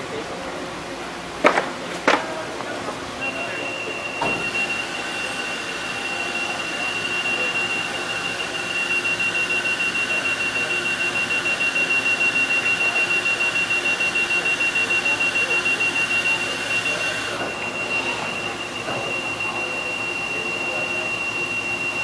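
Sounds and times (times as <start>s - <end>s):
high-pitched beeping tone: 3.2s - 22.0s.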